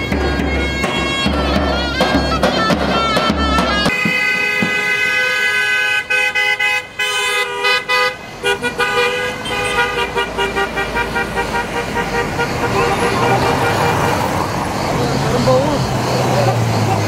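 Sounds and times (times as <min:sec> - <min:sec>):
reedy wind instrument music: 0:00.0 - 0:14.6
car horns honking: 0:00.0 - 0:17.0.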